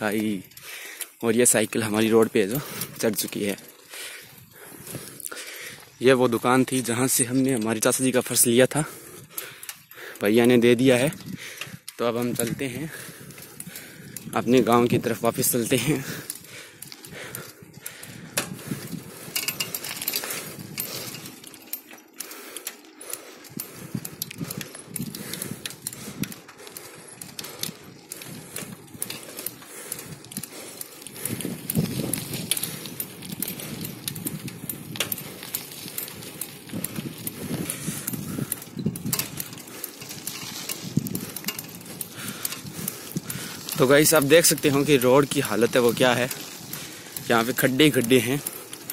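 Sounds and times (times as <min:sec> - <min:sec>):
bicycle frame rattling: 0:00.0 - 0:48.9
tyre noise on rough road: 0:00.0 - 0:48.9.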